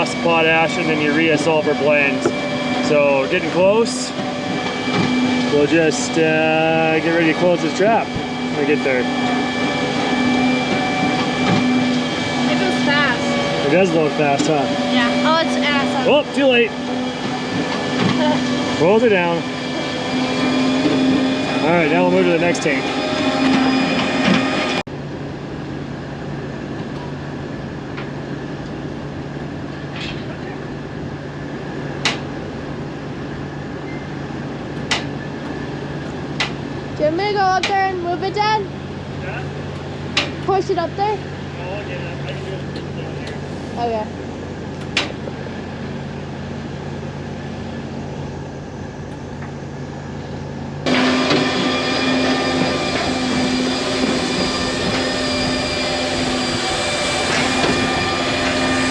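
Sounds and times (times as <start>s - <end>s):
farm engine running steadily: 0.0s - 58.9s
loud machine humming: 0.0s - 58.9s.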